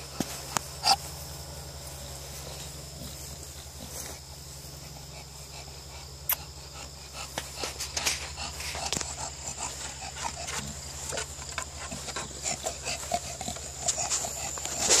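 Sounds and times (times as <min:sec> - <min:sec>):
dog panting: 0:02.6 - 0:15.0.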